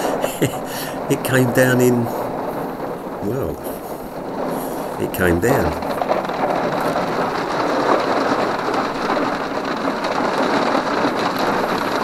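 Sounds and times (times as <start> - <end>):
rain and hail on car roof: 0.0 - 12.0.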